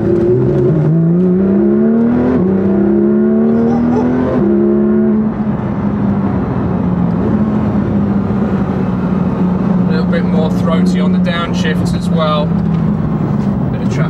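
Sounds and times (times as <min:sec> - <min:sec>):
car engine revving and upshifting: 0:00.0 - 0:14.0.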